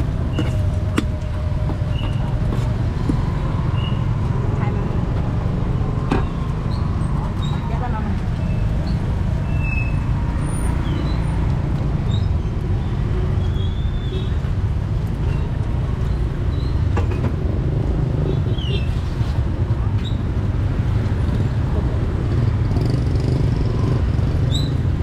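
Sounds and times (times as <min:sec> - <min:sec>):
rumble of passing vehicles: 0:00.0 - 0:25.0.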